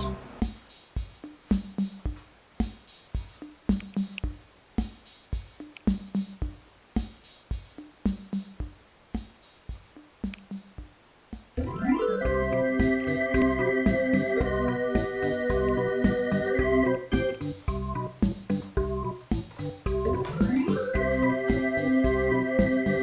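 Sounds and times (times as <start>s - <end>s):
drum-machine beat: 0.0s - 23.0s.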